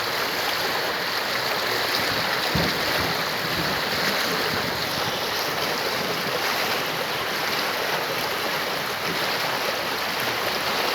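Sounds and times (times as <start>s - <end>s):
stream water flowing: 0.0s - 10.9s.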